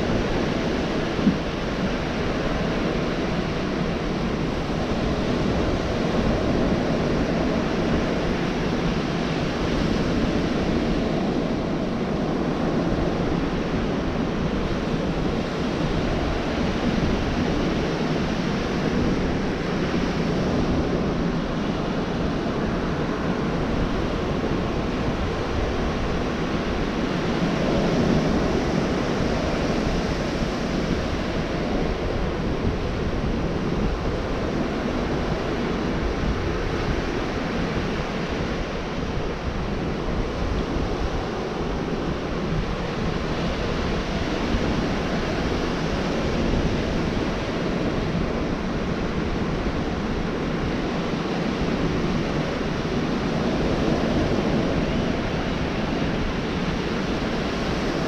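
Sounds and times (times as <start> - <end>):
surf washing onto beach: 0.0 - 58.0.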